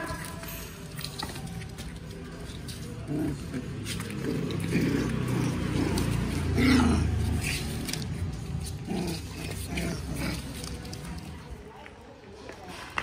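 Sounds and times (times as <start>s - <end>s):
puppies growling: 1.0s - 11.6s.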